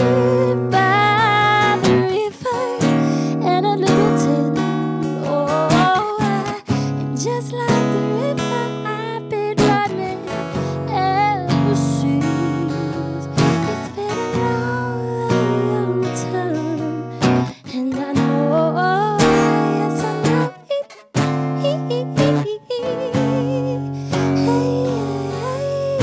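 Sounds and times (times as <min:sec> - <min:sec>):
acoustic guitar strumming: 0:00.0 - 0:26.0
woman singing: 0:00.0 - 0:26.0.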